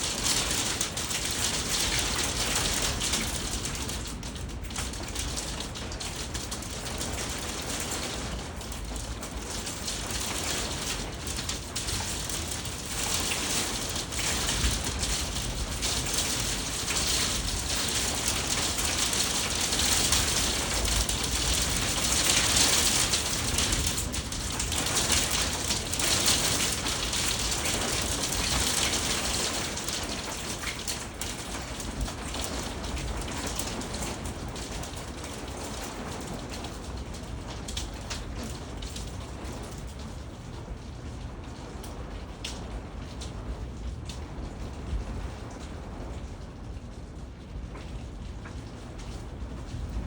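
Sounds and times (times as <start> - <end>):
hail and rain pattering: 0.0 - 50.0.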